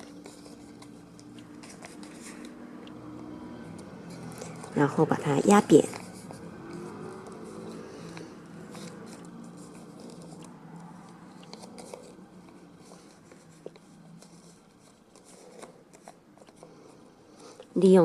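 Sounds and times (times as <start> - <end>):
paper rustling and crinkling: 0.0 - 2.6, 5.6 - 17.5.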